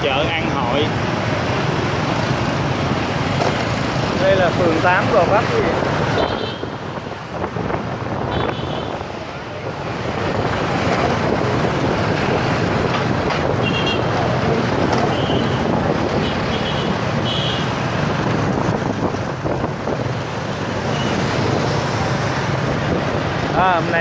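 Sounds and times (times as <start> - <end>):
motorbike engines rumbling: 0.0 - 24.0
tyres on the road: 0.0 - 24.0
wind buffeting microphone: 1.2 - 24.0.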